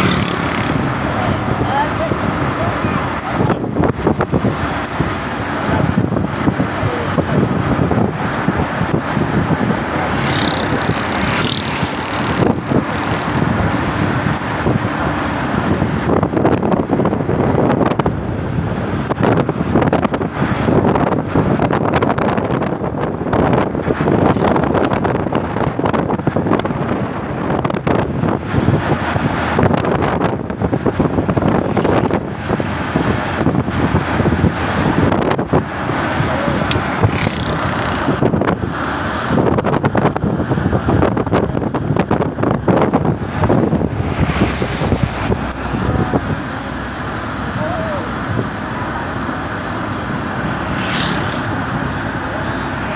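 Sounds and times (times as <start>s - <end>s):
vehicle road and engine noise: 0.0s - 52.9s
wind buffeting microphone: 0.0s - 52.9s.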